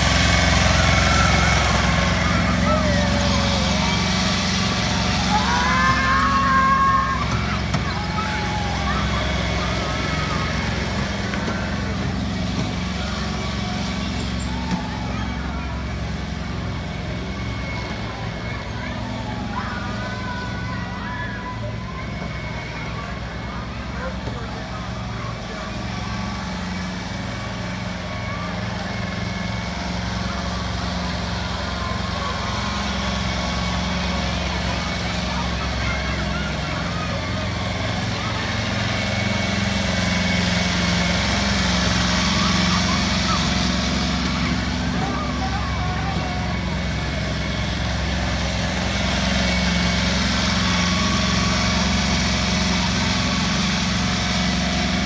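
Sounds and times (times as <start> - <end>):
small engine running steadily: 0.0 - 55.0.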